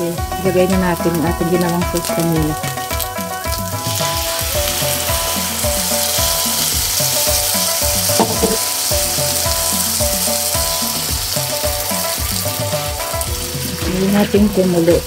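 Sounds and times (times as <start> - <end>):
background music with steady beat: 0.0 - 15.0
sauce sizzling in a hot pan: 0.0 - 15.0.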